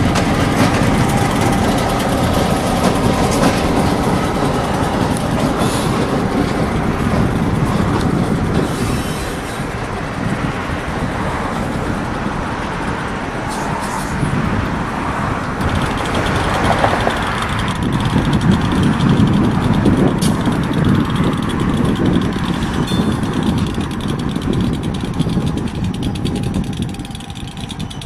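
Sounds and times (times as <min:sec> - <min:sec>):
heavy vehicle engine rumble: 0:00.0 - 0:28.0.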